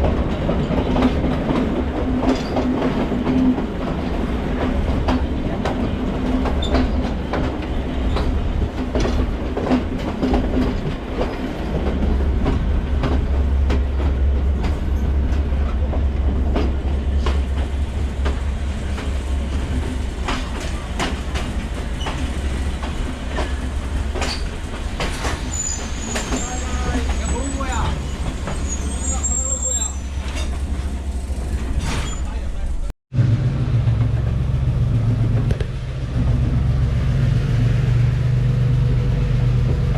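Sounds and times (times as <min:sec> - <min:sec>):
train wheels clicking over rail joints: 0:00.0 - 0:32.8
train rumble: 0:00.0 - 0:39.9.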